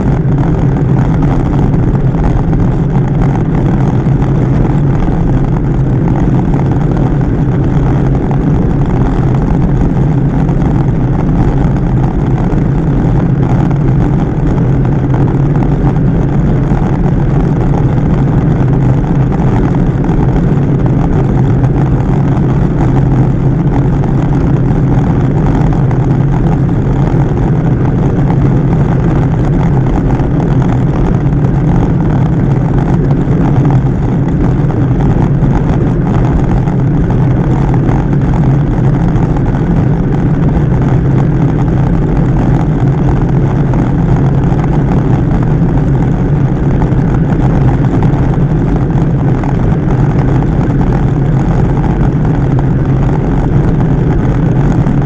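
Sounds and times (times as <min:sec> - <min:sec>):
bike tyre noise on asphalt: 0:00.0 - 0:55.0
wind rushing over microphone: 0:00.0 - 0:55.0.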